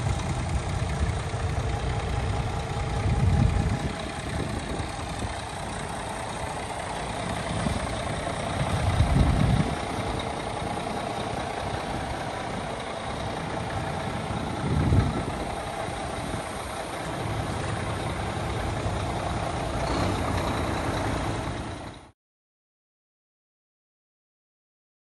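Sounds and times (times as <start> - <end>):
truck diesel engine idling: 0.0 - 22.2.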